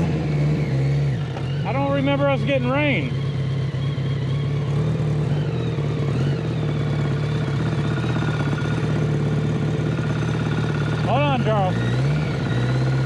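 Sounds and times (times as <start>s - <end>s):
kart engine running: 0.0s - 13.0s.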